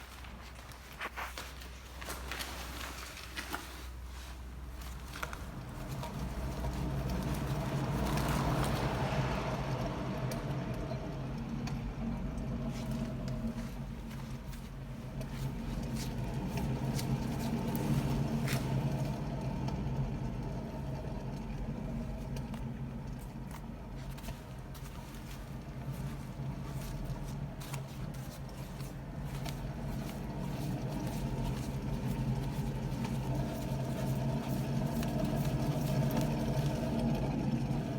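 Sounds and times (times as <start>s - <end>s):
light clicks and rattles: 0.0s - 37.9s
car low hum: 4.4s - 37.9s.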